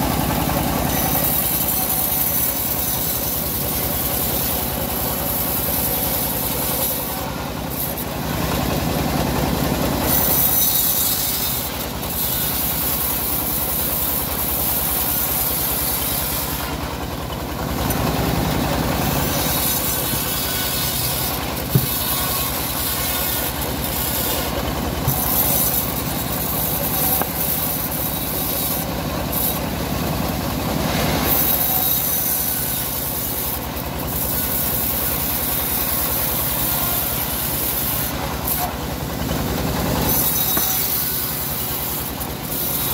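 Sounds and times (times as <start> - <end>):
bandsaw mill cutting log: 0.0 - 42.9.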